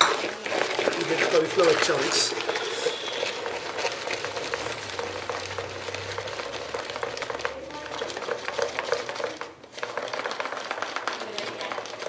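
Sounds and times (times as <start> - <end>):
vegetable shredder crunchy rasping: 0.0 - 12.0.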